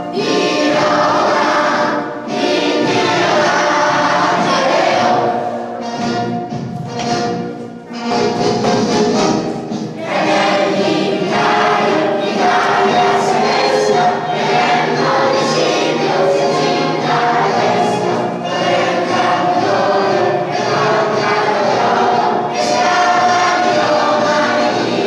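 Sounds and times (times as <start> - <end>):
children singing: 0.0 - 6.4, 8.0 - 25.0
instrumental backing music: 0.0 - 25.0.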